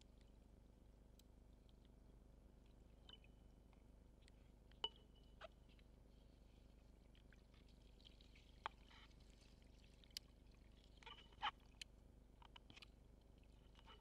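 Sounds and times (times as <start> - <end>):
low underwater hum: 0.0 - 14.0.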